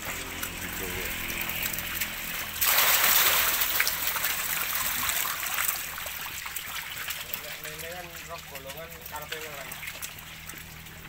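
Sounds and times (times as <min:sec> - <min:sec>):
fish thrashing in water: 0:00.0 - 0:11.0
water splashing and pouring: 0:00.0 - 0:11.0.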